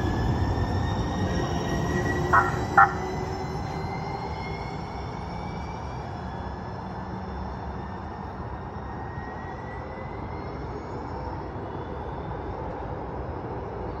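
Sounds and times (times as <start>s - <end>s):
light rail train rolling rumble: 0.0s - 14.0s.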